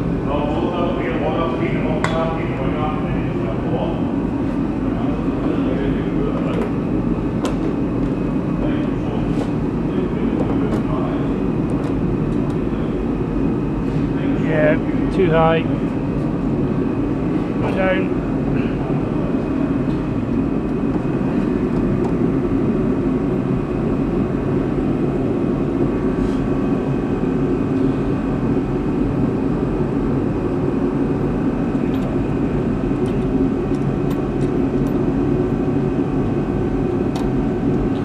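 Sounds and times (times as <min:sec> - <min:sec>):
mechanical drone with whine: 0:00.0 - 0:38.0.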